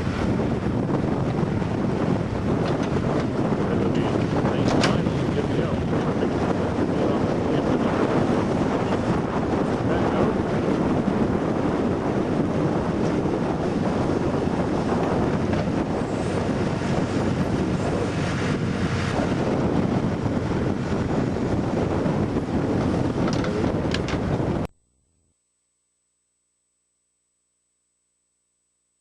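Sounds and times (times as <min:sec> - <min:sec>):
wind buffeting microphone: 0:00.0 - 0:24.7.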